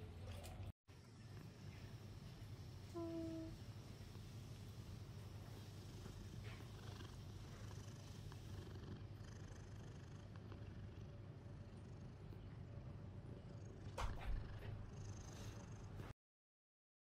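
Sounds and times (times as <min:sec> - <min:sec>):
cat purring: 0:01.2 - 0:16.1.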